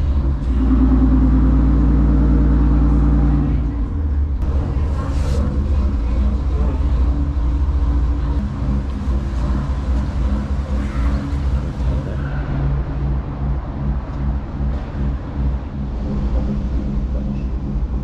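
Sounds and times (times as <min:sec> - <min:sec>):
diesel engine throbbing: 0:00.0 - 0:18.0.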